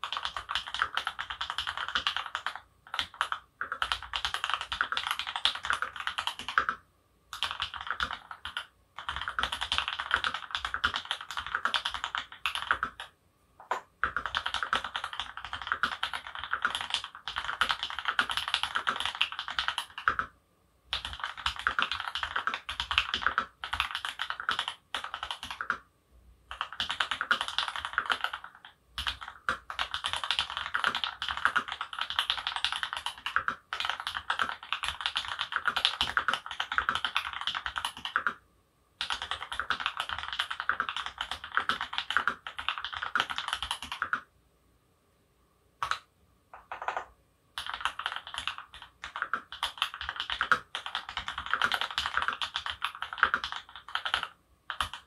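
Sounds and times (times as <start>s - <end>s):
mechanical keyboard typing: 0.0s - 20.3s, 20.9s - 25.8s, 26.5s - 38.4s, 39.0s - 44.3s, 45.8s - 55.0s.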